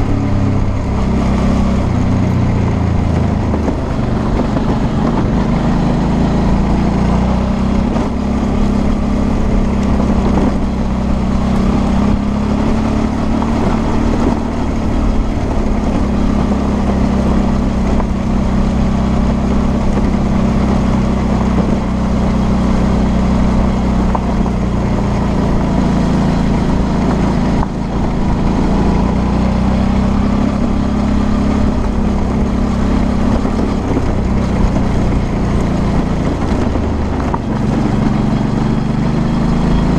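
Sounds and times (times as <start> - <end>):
motorcycle engine running: 0.0 - 39.9
wind and tyre noise: 0.0 - 39.9.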